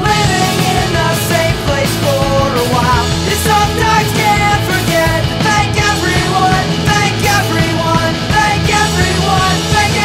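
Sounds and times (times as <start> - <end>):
emo rock band music: 0.0 - 10.0.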